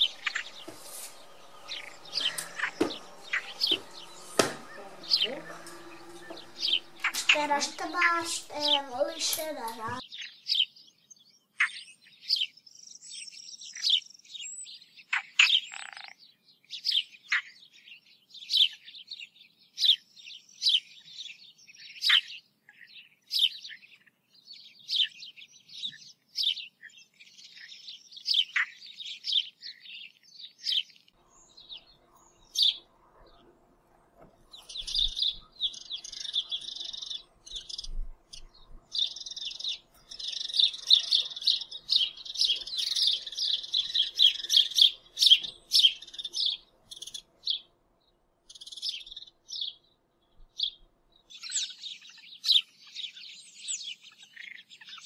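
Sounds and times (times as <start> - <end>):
small bird chirping: 0.0 - 33.5, 34.4 - 55.0.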